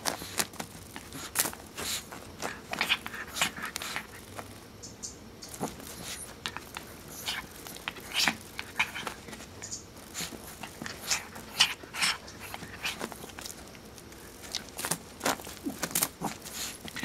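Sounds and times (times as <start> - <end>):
dog pawing on carpet: 0.0 - 4.6, 5.5 - 17.0.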